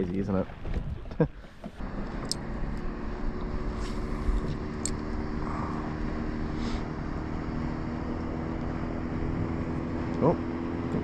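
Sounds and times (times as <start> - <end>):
boat motor humming: 0.5 - 11.0.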